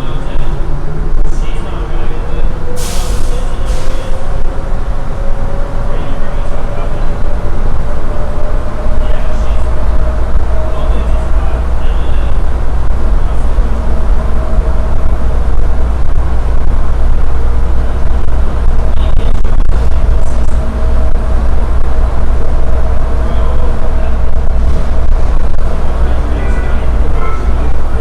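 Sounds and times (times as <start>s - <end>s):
train car low rumble: 0.0s - 28.0s.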